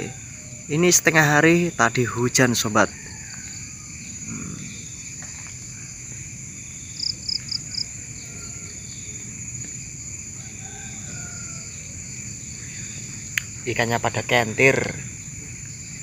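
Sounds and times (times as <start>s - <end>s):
crickets and insects chirring: 0.0s - 16.0s.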